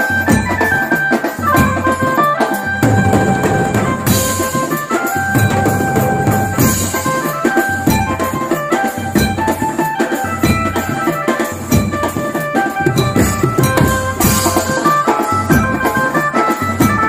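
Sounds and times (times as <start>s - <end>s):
folk music with drums: 0.0s - 17.0s.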